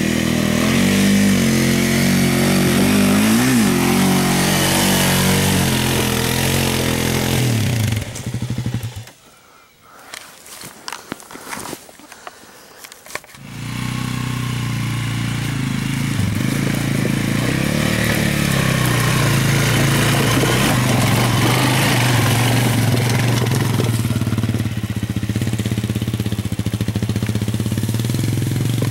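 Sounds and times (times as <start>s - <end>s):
atv engine revving: 0.0s - 9.2s, 13.1s - 28.9s.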